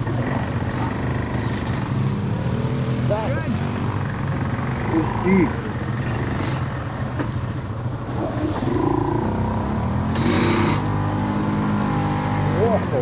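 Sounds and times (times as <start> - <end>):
atv engines revving: 0.0 - 13.0.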